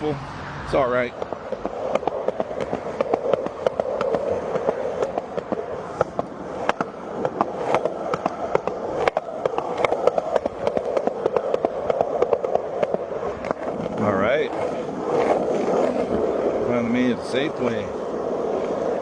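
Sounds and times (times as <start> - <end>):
skateboard wheels rolling on concrete: 0.0 - 19.0
skateboard wheels clicking over cracks: 1.0 - 19.0.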